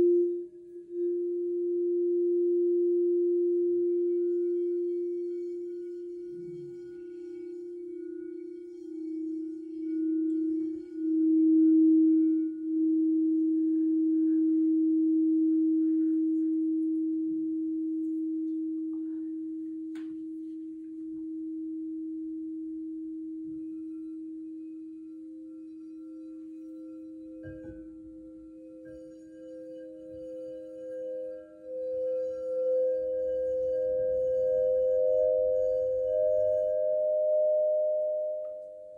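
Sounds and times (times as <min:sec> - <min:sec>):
crystal singing bowl low tone: 0:00.0 - 0:38.9
higher singing bowl tone: 0:00.0 - 0:38.9.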